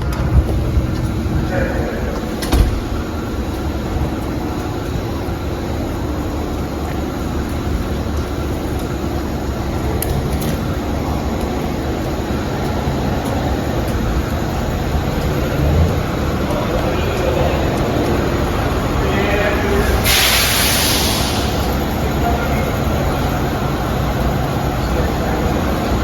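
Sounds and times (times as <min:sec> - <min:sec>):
garbage truck engine running: 0:00.0 - 0:26.0.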